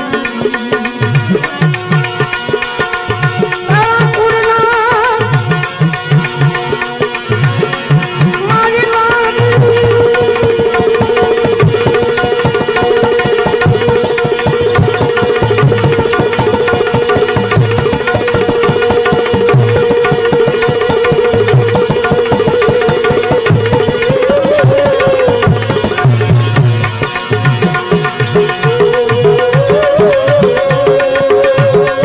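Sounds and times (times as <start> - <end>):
devotional melody line: 0.0 - 32.0.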